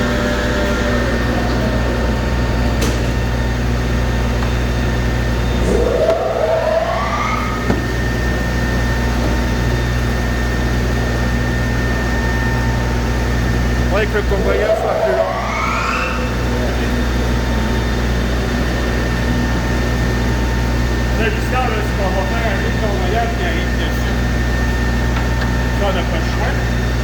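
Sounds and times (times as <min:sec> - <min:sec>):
machinery humming: 0:00.0 - 0:27.0
rising machine whine: 0:00.0 - 0:27.0.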